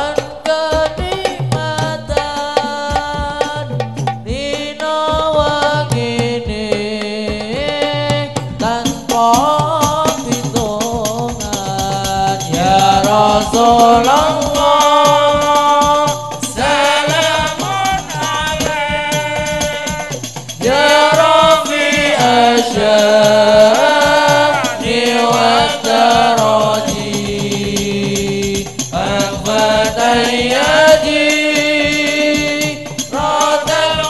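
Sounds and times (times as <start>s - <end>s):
hand-struck frame drums: 0.0s - 34.0s
voices singing through microphones: 0.0s - 34.0s.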